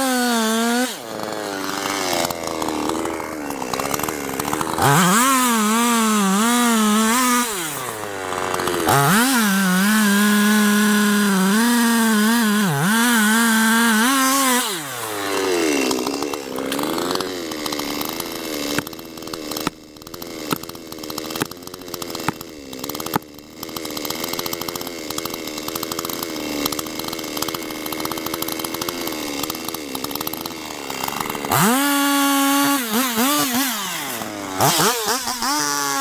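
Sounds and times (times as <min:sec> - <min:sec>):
chainsaw cutting wood: 0:00.0 - 0:36.0
chainsaw idling: 0:00.0 - 0:36.0.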